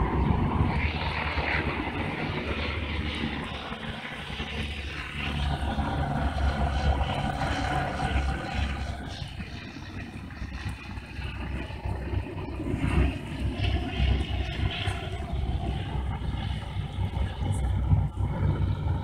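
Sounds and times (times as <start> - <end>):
distant airliner engine rumble: 0.0 - 19.0.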